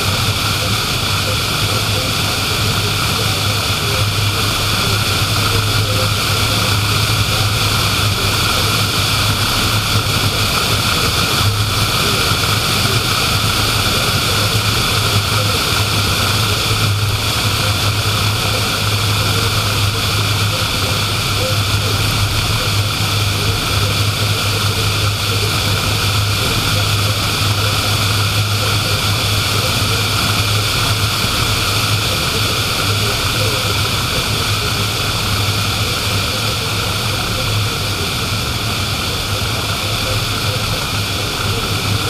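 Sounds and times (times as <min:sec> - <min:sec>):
constant low hum: 0:00.0 - 0:42.0.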